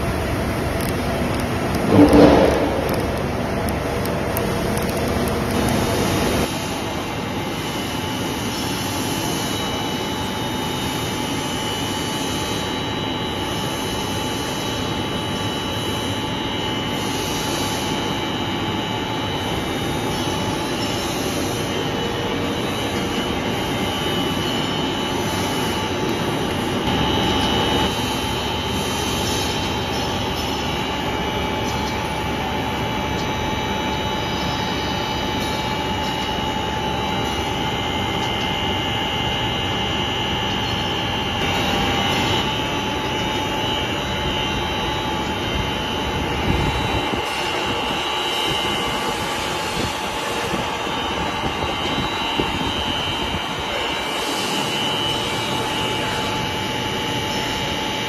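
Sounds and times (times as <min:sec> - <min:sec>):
extrusion machine running: 0:00.0 - 0:58.0
steady high whine: 0:00.0 - 0:58.0.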